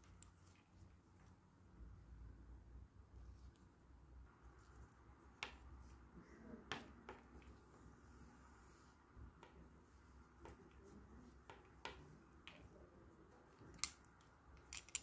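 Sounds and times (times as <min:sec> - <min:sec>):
hands working yarn and needle: 0:00.0 - 0:15.0.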